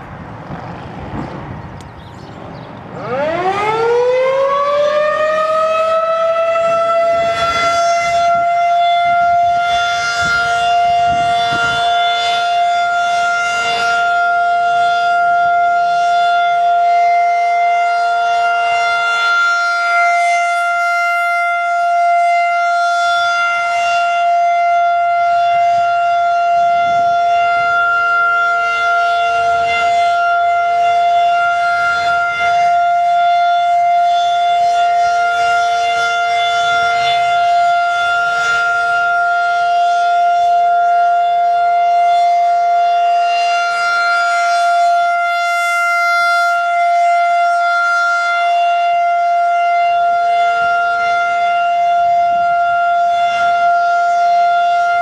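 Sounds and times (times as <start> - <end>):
rotating siren steady tone: 0.0 - 55.0.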